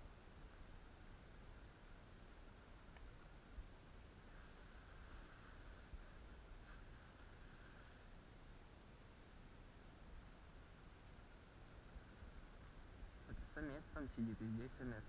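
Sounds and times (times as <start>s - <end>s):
high thin bird song: 0.0s - 2.9s, 4.2s - 8.3s, 9.0s - 15.0s.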